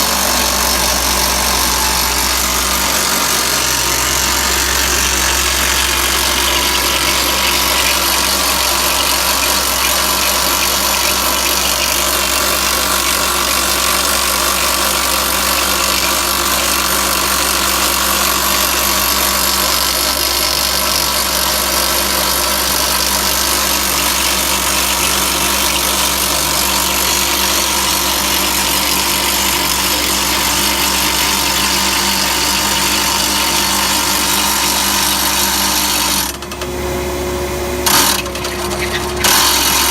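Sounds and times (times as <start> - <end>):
percussive rock drill: 0.0 - 36.6, 37.8 - 39.9
drill rig engine running: 0.0 - 39.9.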